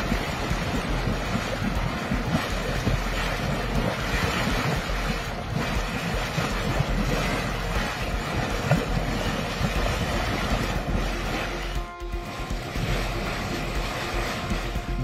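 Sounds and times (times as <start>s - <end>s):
mud volcano rushing and churning: 0.0s - 15.0s
wind on microphone: 0.0s - 15.0s.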